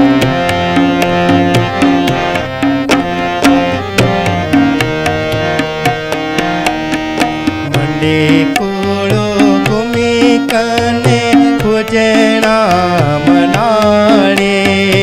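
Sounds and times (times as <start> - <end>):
melody of held notes: 0.0 - 14.5
tabla rhythm: 0.0 - 15.0.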